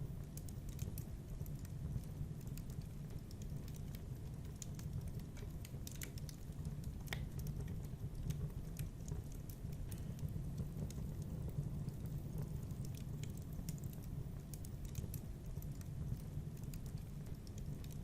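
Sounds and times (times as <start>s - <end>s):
fire crackles and pops: 0.0s - 18.0s
low fire rumble: 0.0s - 18.0s.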